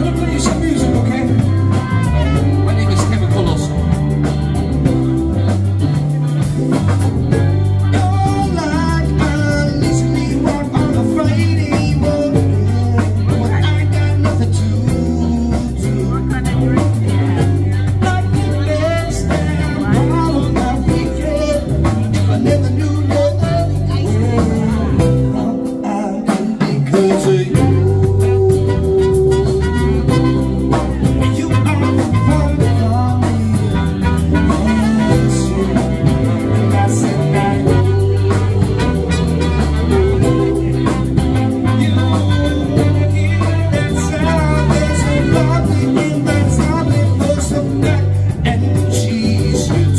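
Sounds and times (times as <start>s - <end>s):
drum kit: 0.0s - 49.9s
electric bass: 0.0s - 49.9s
person singing: 0.0s - 49.9s
saxophone: 0.0s - 49.9s
trumpet: 0.0s - 49.9s.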